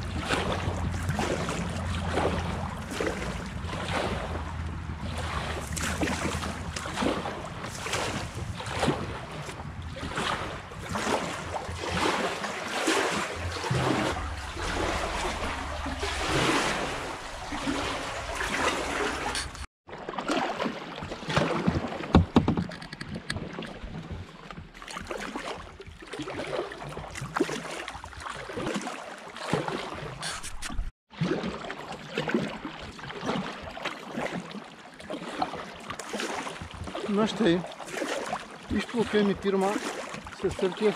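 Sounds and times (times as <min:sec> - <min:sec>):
paddle blades splashing: 0:00.0 - 0:40.9.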